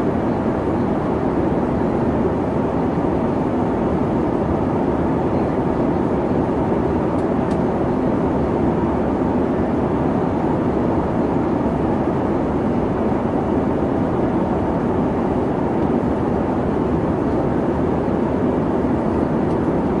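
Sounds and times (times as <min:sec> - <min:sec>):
jet engine drone: 0:00.0 - 0:20.0.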